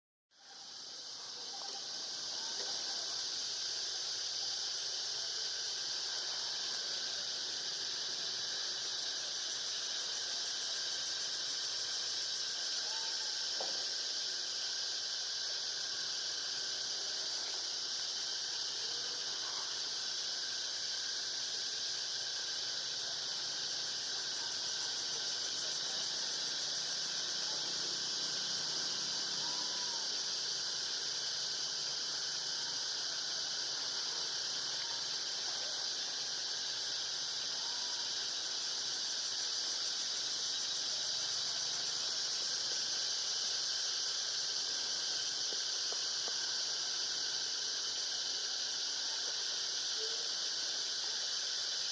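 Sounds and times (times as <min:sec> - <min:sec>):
insect chorus drone: 0:00.4 - 0:51.9.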